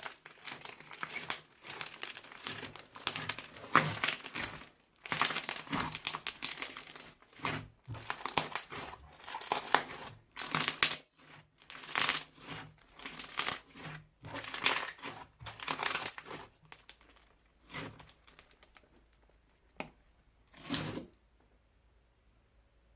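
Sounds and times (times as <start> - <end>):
crunchy slime crackling: 0.0 - 19.7.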